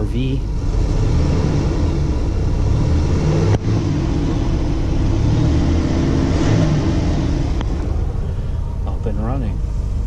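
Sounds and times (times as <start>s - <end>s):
engine running low rumble: 0.0s - 10.0s.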